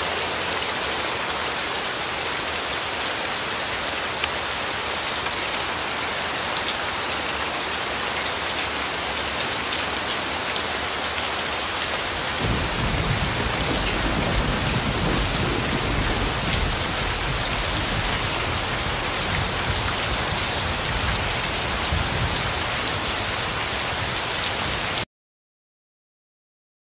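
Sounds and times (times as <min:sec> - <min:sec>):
heavy rain falling: 0:00.0 - 0:25.1.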